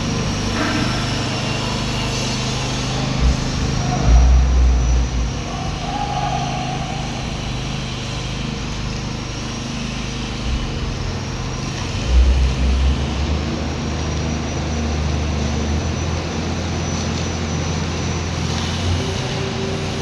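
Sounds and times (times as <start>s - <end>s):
heavy low rumbles: 0.0s - 16.6s
power trowel petrol engine: 0.0s - 20.0s.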